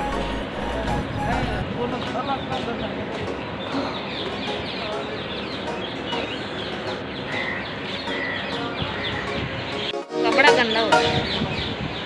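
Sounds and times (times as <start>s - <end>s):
steady background din: 0.0s - 11.8s
many birds chirping: 0.7s - 12.0s.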